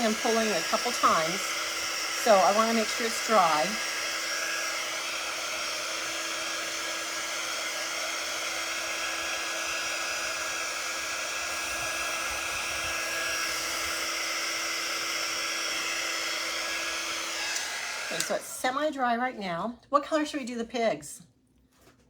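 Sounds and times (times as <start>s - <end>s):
blow dryer running: 0.0s - 18.9s.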